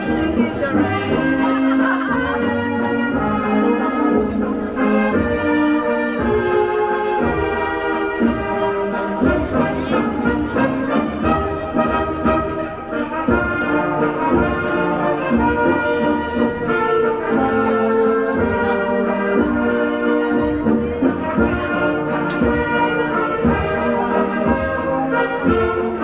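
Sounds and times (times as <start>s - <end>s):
live folk band playing: 0.0s - 26.0s.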